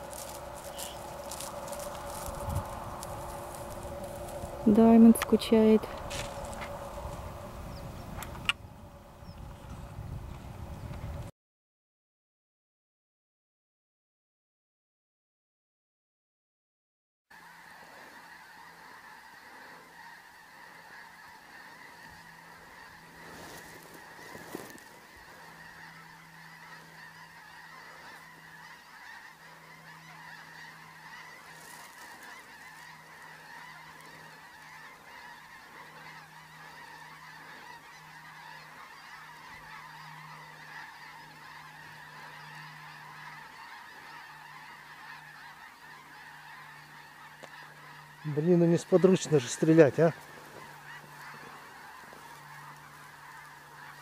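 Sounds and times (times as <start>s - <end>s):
geese honking: 0.0s - 9.8s, 17.3s - 54.0s.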